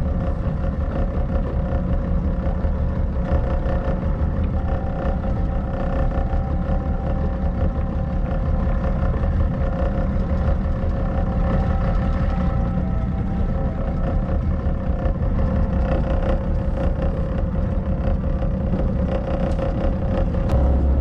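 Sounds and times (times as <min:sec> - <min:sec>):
boat engine rumbling: 0:00.0 - 0:21.0.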